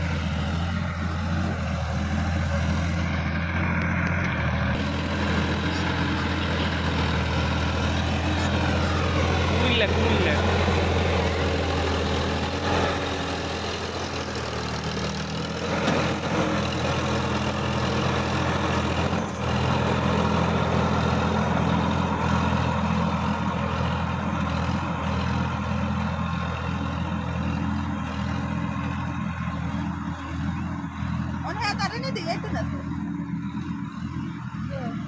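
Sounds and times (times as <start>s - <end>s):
rotary tiller through dry soil: 0.0s - 32.8s
tractor diesel engine under load: 0.0s - 35.0s.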